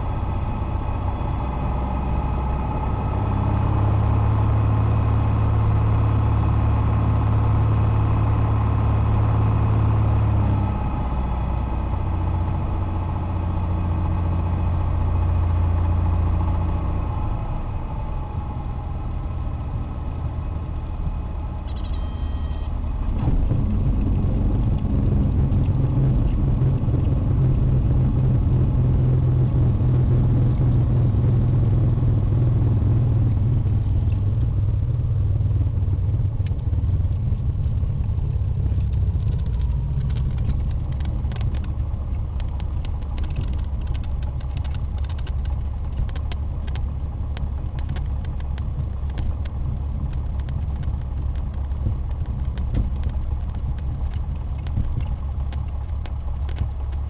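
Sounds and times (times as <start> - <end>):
propeller plane engine: 0.0 - 57.0.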